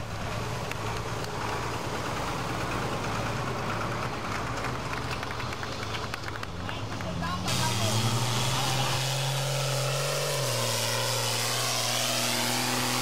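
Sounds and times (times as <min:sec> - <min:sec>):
tractor engine at low revs: 0:00.0 - 0:13.0.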